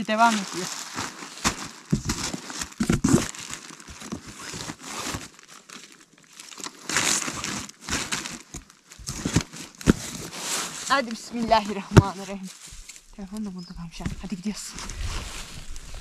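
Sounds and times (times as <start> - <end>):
plastic bags crinkling: 0.0 - 13.1.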